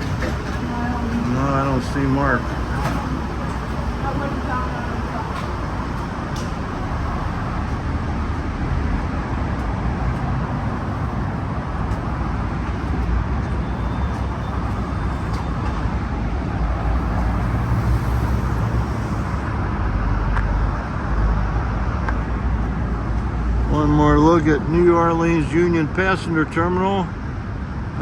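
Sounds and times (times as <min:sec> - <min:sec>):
road hiss: 0:00.0 - 0:27.1
vehicle rumble: 0:00.0 - 0:28.0.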